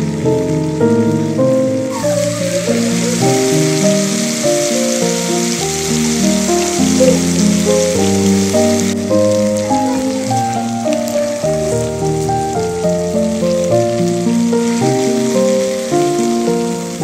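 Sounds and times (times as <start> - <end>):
background music melody: 0.0 - 17.0
chicken sizzling in frying pan: 0.0 - 17.0.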